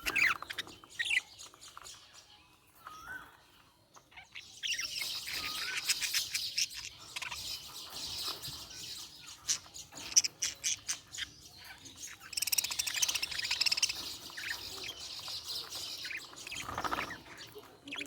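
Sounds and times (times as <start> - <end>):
budgerigars chirping: 0.0 - 18.0.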